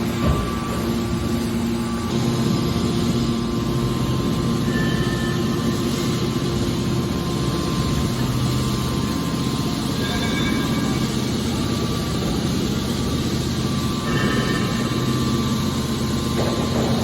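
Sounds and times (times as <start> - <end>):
baler machine humming: 0.0 - 17.0.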